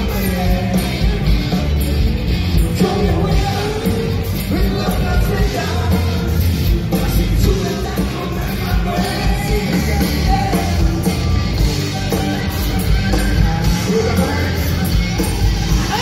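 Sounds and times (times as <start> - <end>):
live funk rock band: 0.0 - 16.0
person singing: 2.6 - 16.0.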